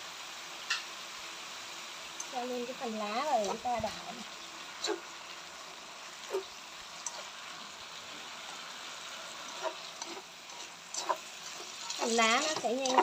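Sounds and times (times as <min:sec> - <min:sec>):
leaves sizzling in hot oil: 0:00.0 - 0:13.0.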